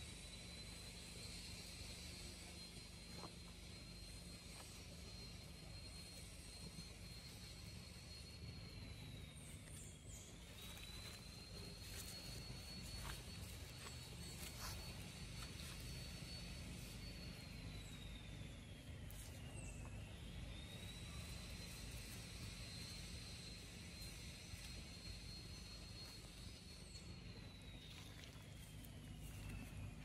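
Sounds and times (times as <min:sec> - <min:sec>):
high steady whine: 0:00.0 - 0:30.0.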